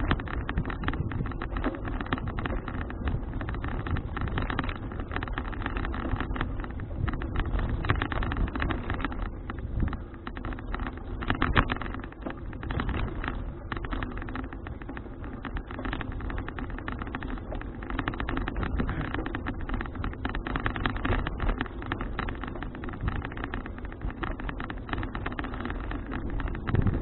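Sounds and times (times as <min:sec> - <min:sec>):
bike rattling clicks and knocks: 0:00.0 - 0:27.0
wind buffeting microphone: 0:00.0 - 0:27.0.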